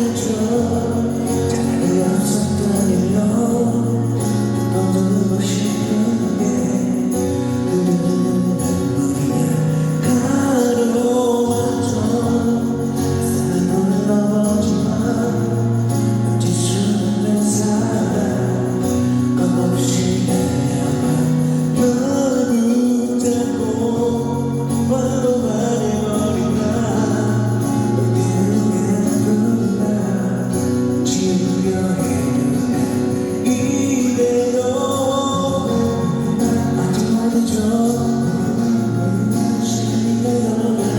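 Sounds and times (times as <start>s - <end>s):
band playing pop music: 0.0s - 40.9s
person singing: 0.0s - 40.9s.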